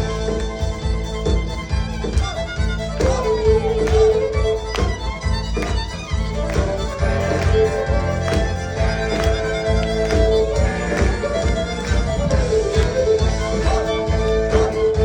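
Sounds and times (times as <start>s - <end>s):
fiddle melody: 0.0s - 15.0s
live folk-rock band: 0.0s - 15.0s.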